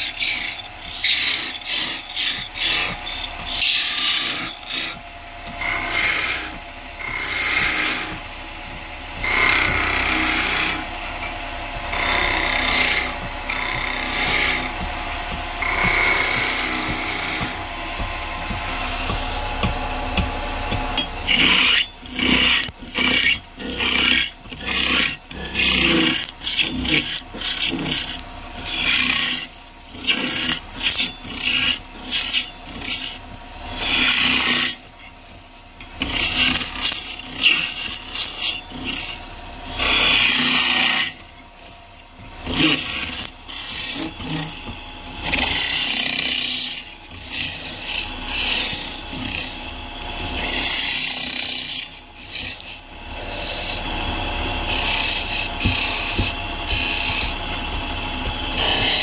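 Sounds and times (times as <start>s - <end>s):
lathe tool cutting spinning wood: 0.0s - 59.0s.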